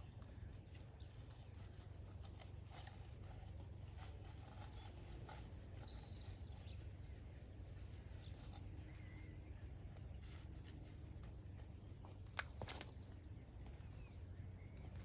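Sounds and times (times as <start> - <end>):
distant bird chirps: 0.0 - 15.0.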